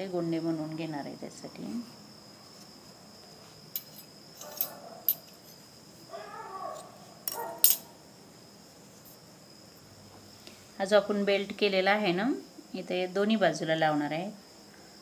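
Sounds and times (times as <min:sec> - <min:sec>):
cricket trill: 0:00.0 - 0:15.0.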